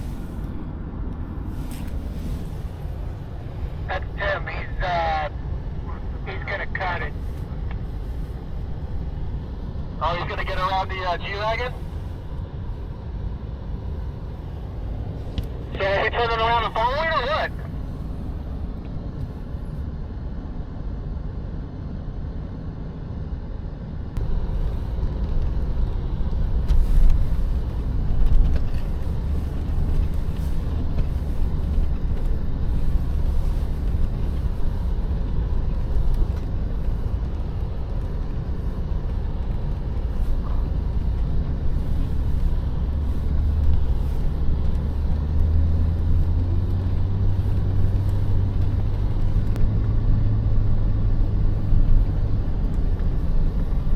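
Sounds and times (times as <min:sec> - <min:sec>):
vehicle engine low rumble: 0:00.0 - 0:53.9.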